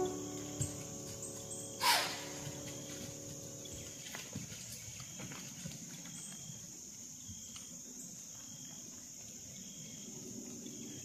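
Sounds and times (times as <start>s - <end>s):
crickets and insects chorus: 0.0s - 11.0s.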